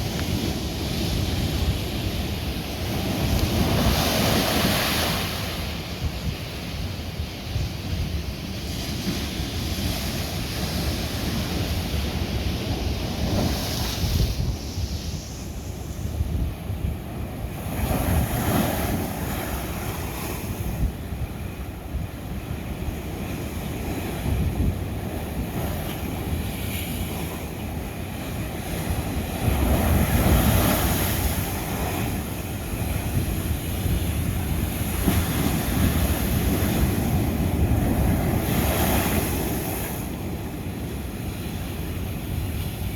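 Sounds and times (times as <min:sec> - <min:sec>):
ocean waves breaking on rock: 0:00.0 - 0:42.9
wind buffeting microphone: 0:00.0 - 0:42.9.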